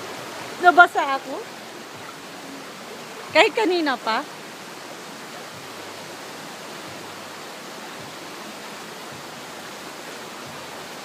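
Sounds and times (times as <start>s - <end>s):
stream rushing among rocks: 0.0s - 11.0s.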